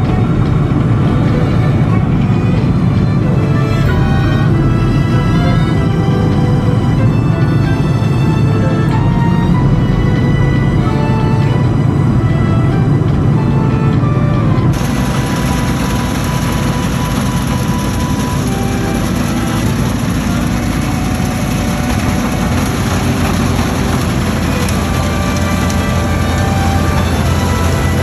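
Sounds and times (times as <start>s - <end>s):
combine harvester droning: 0.0s - 28.0s.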